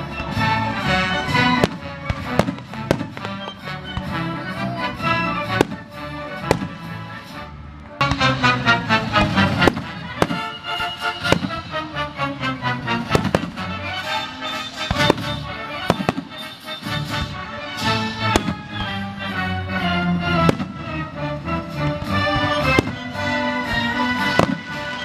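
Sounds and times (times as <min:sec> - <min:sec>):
fireworks bursting: 0:00.0 - 0:04.4, 0:05.0 - 0:07.3, 0:08.0 - 0:25.0
symphony orchestra playing: 0:00.0 - 0:25.0.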